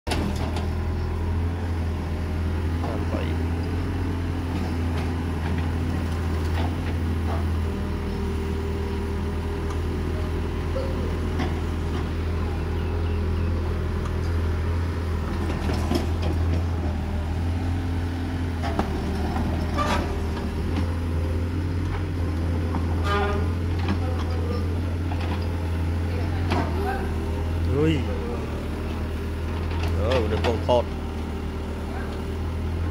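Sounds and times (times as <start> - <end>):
excavator diesel engine running: 0.1 - 32.9.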